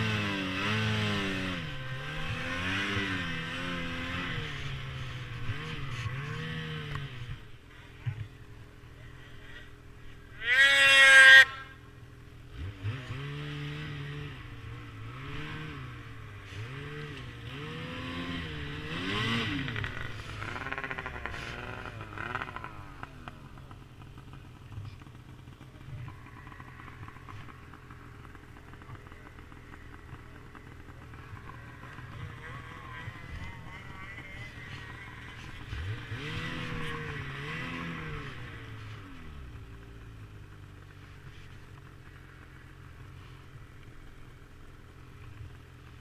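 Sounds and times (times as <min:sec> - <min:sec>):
snowmobile engine revving: 0:00.0 - 0:08.3, 0:08.9 - 0:11.8, 0:12.4 - 0:46.0
snowmobile engine whining: 0:00.0 - 0:46.0.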